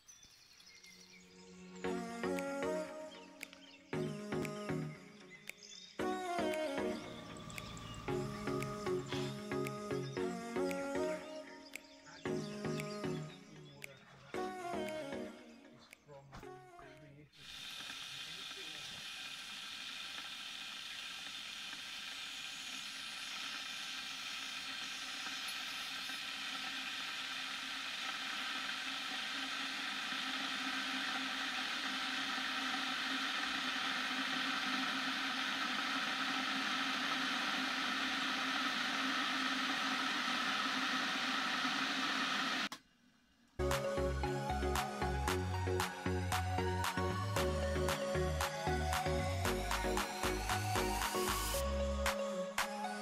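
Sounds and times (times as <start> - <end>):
electric kettle hissing: 1.1 - 13.8, 17.4 - 42.8, 43.6 - 53.0.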